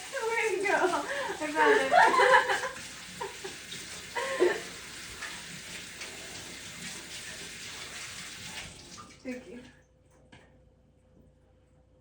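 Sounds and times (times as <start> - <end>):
water running from tap into sink: 0.0 - 9.6.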